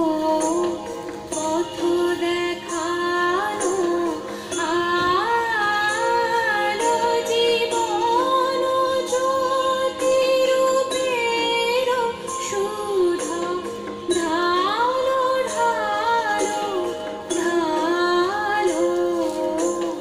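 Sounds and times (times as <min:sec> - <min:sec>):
woman singing long gliding notes: 0:00.0 - 0:20.0.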